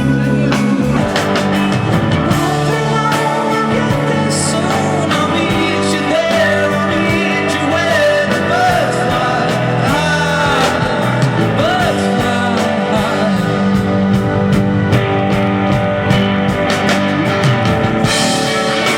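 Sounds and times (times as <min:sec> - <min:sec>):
guitar: 0:00.0 - 0:18.9
rock song with singing: 0:00.0 - 0:18.9
steady drum beat: 0:00.0 - 0:18.9.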